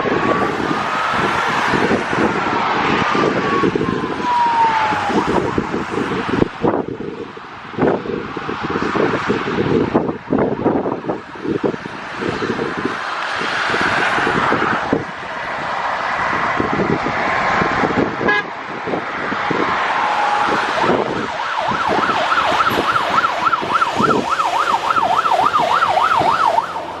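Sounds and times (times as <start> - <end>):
fire engine siren: 0.0 - 27.0
vehicle noise: 0.0 - 27.0
wind buffeting microphone: 0.0 - 27.0.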